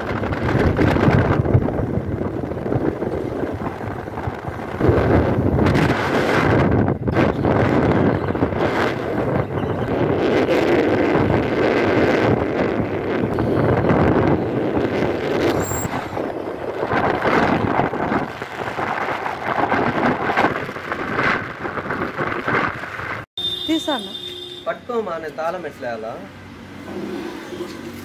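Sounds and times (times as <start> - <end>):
wind rushing over microphone: 0.0 - 23.3
traffic engines and tyres: 0.0 - 28.0.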